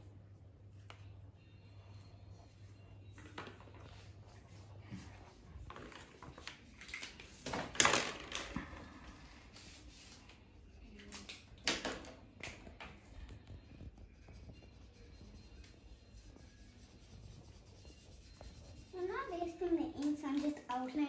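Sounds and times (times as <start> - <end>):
markers scratching on paper: 0.4 - 7.5, 9.1 - 11.5, 12.4 - 20.6.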